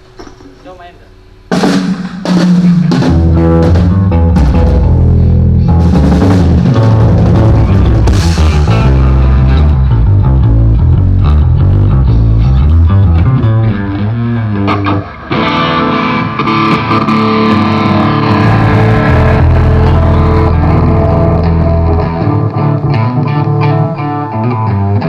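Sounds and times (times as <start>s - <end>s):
bass guitar: 0.0s - 25.0s
electric guitar: 1.5s - 25.0s
rock band playing: 1.5s - 25.0s.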